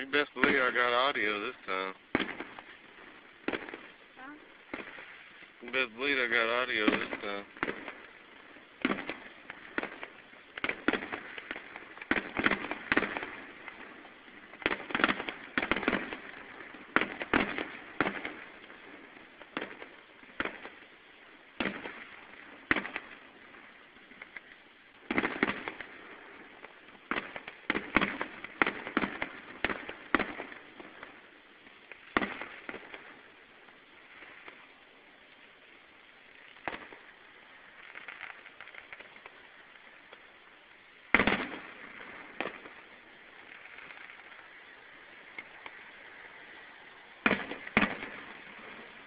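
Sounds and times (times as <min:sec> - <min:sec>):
fireworks bangs and pops: 0:00.0 - 0:49.0.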